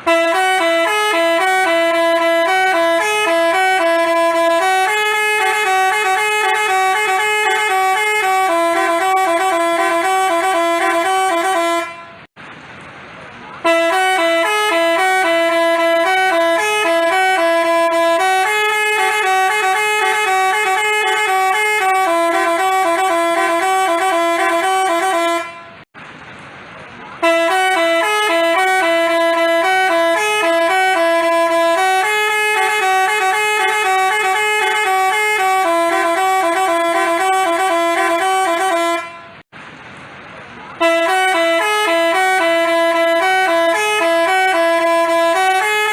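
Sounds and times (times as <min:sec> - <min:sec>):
multi-tone horn melody: 0:00.0 - 0:12.3, 0:13.6 - 0:25.9, 0:27.2 - 0:39.5, 0:40.8 - 0:45.9.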